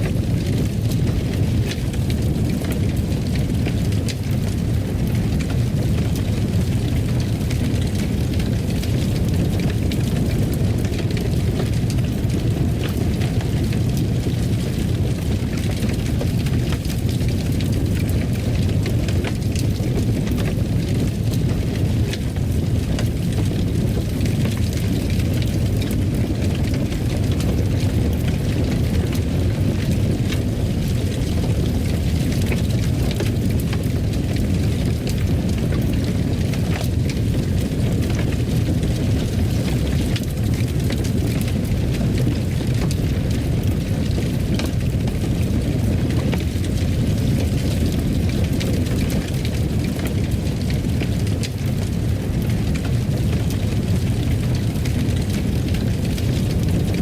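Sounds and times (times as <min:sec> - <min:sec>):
fire crackles and pops: 0:00.0 - 0:57.0
fire roaring in fireplace: 0:00.0 - 0:57.0.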